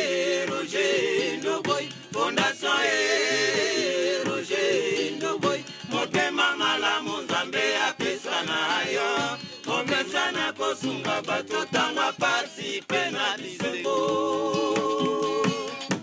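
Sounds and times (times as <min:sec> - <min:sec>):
men singing in chorus: 0:00.0 - 0:16.0.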